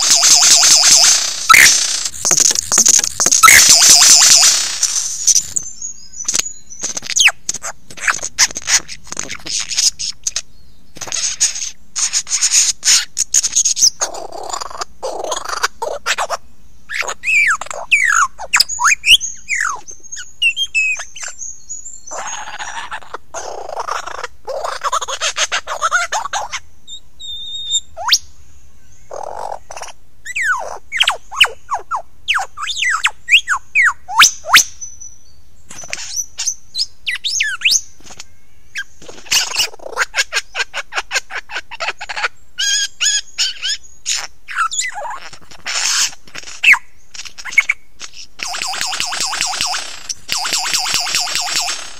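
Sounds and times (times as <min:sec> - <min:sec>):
lyrebird harsh crackling song: 0:00.0 - 0:21.4, 0:22.1 - 0:26.6, 0:29.1 - 0:34.9, 0:35.7 - 0:51.9.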